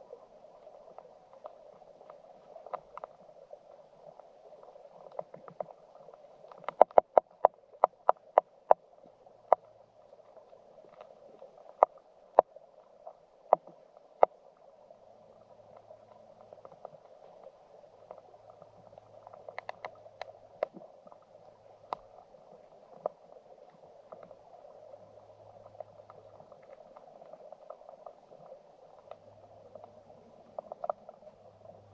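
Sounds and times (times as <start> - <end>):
muffled underwater water rushing: 0.0 - 31.9
sharp clicks underwater: 0.6 - 3.4, 4.6 - 14.6, 15.6 - 31.9.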